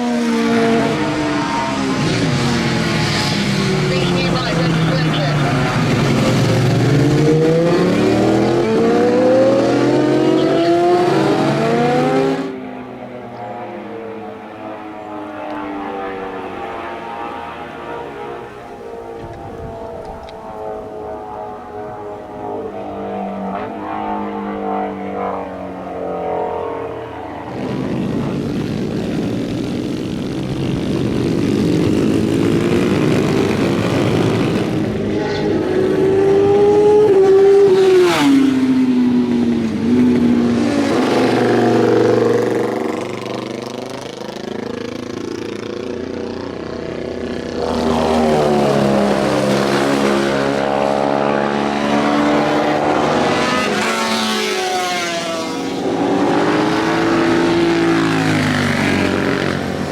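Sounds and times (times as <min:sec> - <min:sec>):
motorcycle engines revving: 0:00.0 - 0:59.9
motorcycle passing close: 0:00.0 - 0:59.9.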